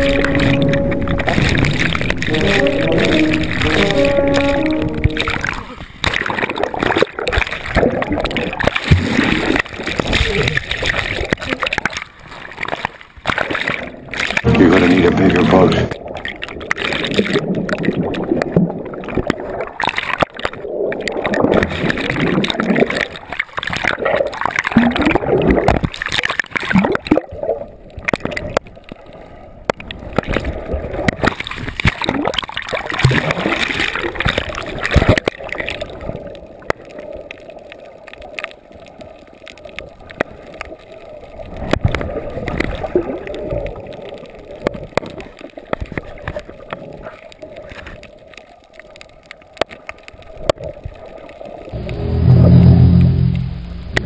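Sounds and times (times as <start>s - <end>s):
water gurgling underwater: 0.0s - 29.0s, 29.6s - 47.8s
bubbles and turbulence: 0.0s - 54.0s.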